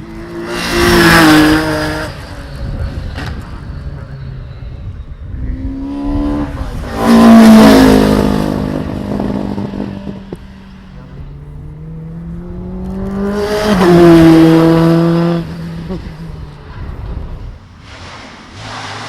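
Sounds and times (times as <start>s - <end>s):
racing cars passing by: 0.0s - 19.0s.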